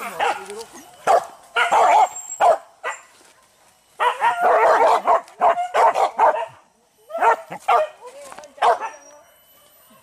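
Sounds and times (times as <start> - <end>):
dogs yelping and barking: 0.0 - 3.4, 4.0 - 10.0.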